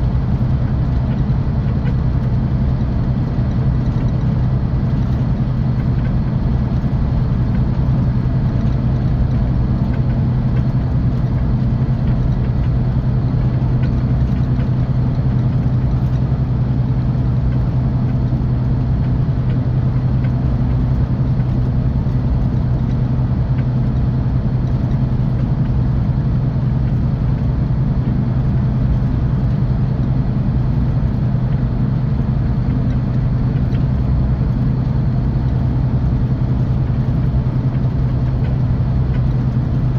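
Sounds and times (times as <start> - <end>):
bus engine and tyres droning: 0.0 - 39.9.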